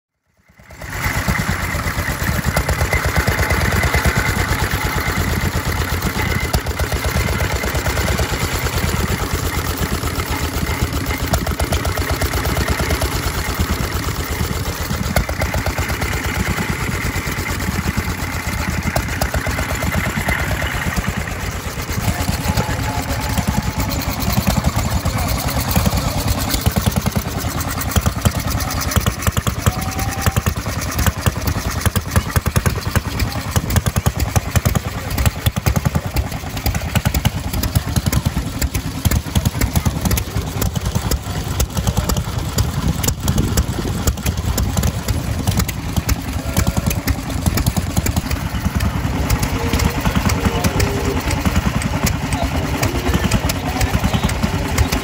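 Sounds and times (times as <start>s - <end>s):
small gasoline engine running: 0.1s - 55.0s.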